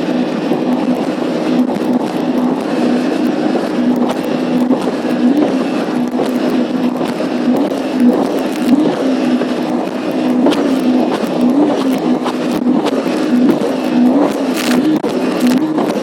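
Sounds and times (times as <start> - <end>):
hull slapping on waves: 0.0 - 16.0
jet ski engine running: 0.0 - 16.0
water rushing: 0.0 - 16.0.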